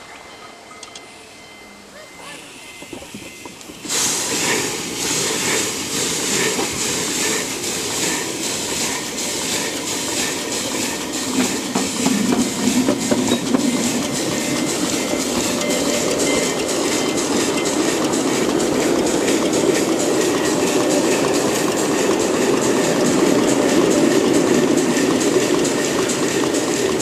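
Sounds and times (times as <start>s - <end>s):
steam locomotive hissing: 0.0s - 27.0s
wheels rumbling on rails: 0.0s - 27.0s
steam exhaust chuffs: 2.4s - 27.0s.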